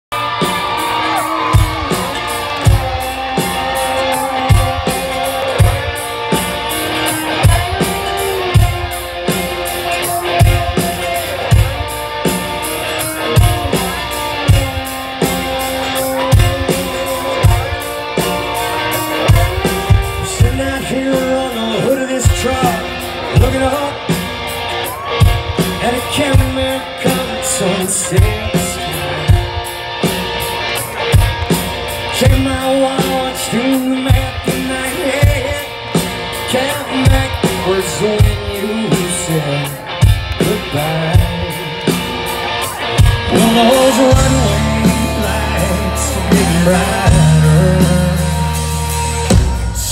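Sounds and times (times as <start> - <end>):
man singing lead vocal: 0.1 - 24.3, 24.9 - 29.8, 32.0 - 49.9
drum kit beat: 0.1 - 49.9
electric guitars: 0.1 - 49.9.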